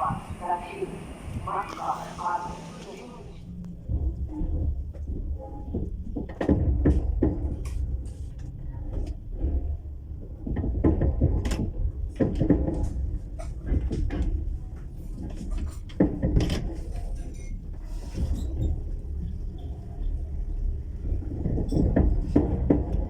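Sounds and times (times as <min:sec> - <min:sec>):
low train rumble: 0:00.0 - 0:23.0
knocks and clatter in train carriage: 0:03.4 - 0:23.0.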